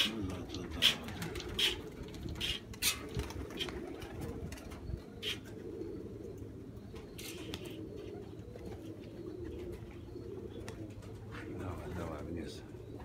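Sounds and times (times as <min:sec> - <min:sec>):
pigeons cooing: 0:00.0 - 0:13.0
brief higher pigeon sounds: 0:00.8 - 0:12.2.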